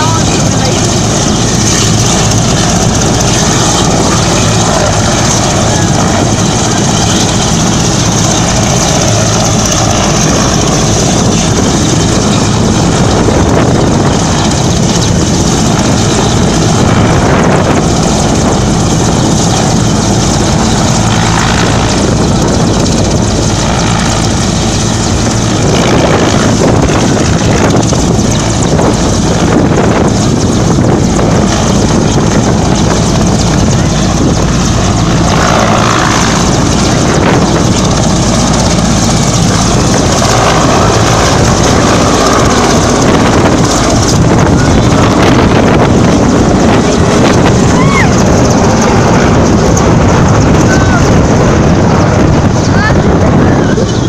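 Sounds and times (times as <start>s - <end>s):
helicopter engines and rotor running: 0.0s - 54.0s.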